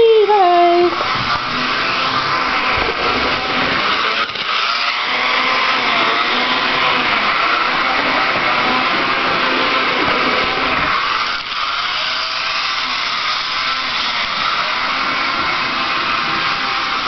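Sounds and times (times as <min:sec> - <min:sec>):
model locomotive motor whirring: 0:00.0 - 0:17.0.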